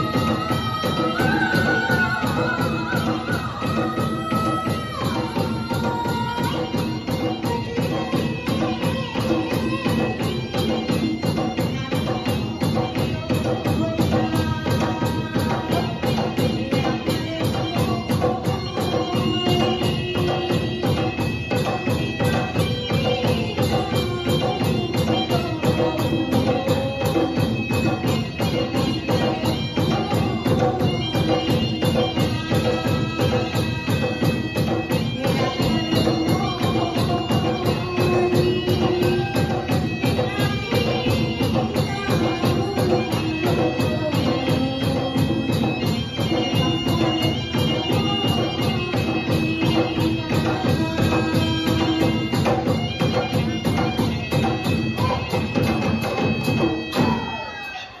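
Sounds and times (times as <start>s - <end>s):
drum beating fast: 0.0s - 57.5s.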